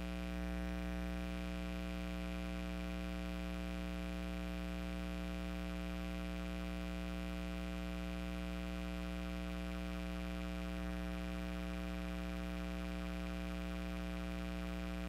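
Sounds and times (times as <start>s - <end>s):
electrical hum: 0.0s - 5.1s, 6.6s - 15.0s.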